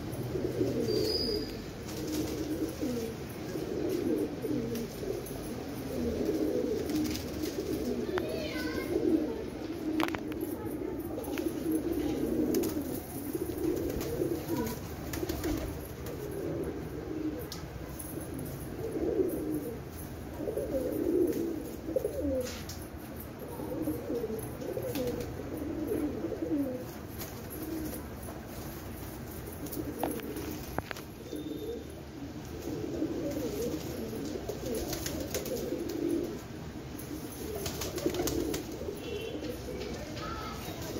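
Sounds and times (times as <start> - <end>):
pigeons cooing: 0.0 - 40.9.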